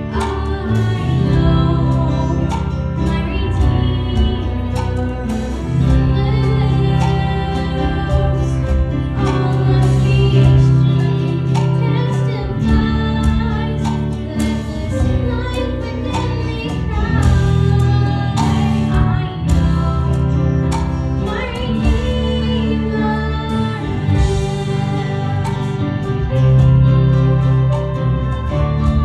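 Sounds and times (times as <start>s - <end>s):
girl singing into a microphone: 0.0s - 26.4s.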